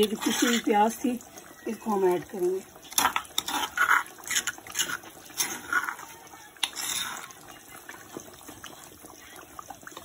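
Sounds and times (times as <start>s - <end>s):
curry bubbling in a pot: 0.0s - 10.0s.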